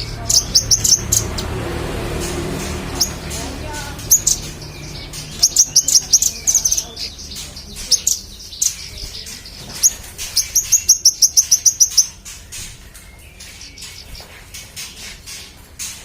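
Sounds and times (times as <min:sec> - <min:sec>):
songbird sharp high chirps: 0:00.0 - 0:16.0.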